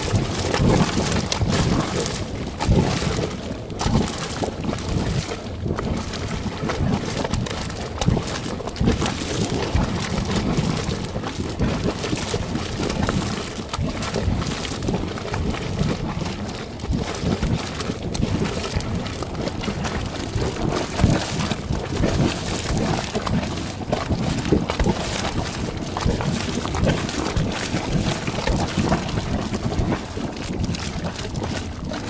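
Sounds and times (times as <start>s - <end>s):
mud bubbling and popping: 0.0s - 32.0s.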